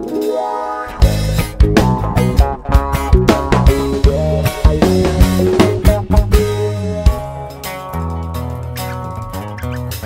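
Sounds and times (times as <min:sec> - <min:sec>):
drum and cymbal hits: 0:00.0 - 0:08.9
live band playing: 0:00.0 - 0:10.0.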